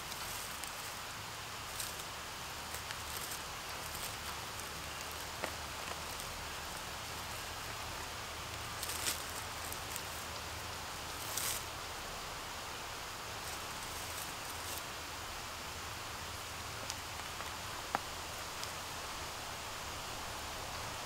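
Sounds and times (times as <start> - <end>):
dry leaves rustling: 0.0 - 21.0
steady background hiss: 0.0 - 21.0.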